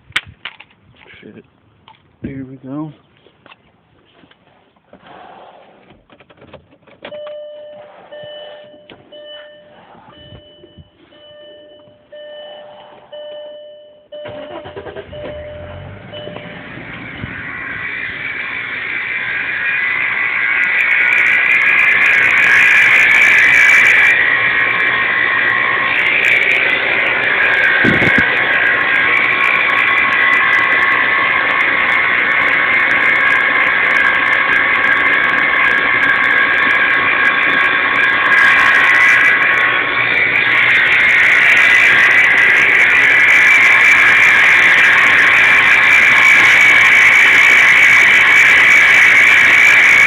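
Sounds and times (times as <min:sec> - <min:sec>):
high-pitched car whine: 0:04.9 - 0:50.0.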